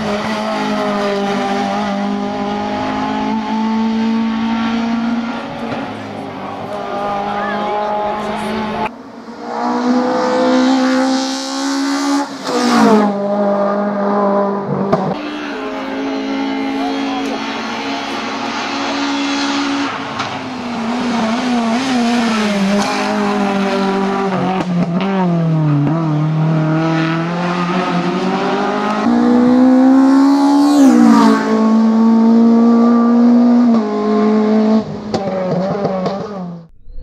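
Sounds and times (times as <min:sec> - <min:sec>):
race car engine revving: 0:00.0 - 0:36.8.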